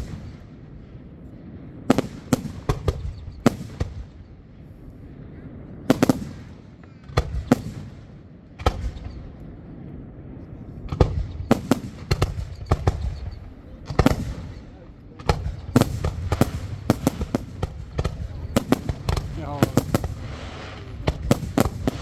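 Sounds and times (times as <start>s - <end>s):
continuous low rumble: 0.0s - 22.0s
fireworks exploding with sharp bangs: 0.0s - 22.0s.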